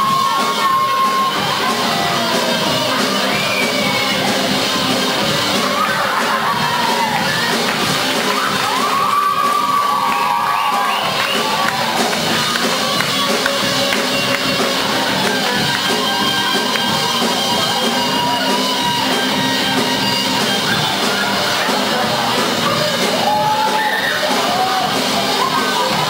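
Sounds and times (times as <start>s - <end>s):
electric guitar rock solo: 0.0s - 26.0s
rock band accompaniment: 0.0s - 26.0s.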